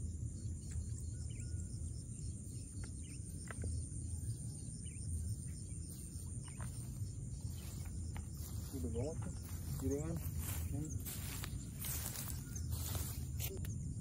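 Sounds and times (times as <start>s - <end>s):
faint bird chirps: 0.0s - 14.0s
high-pitched insect trill: 0.0s - 14.0s.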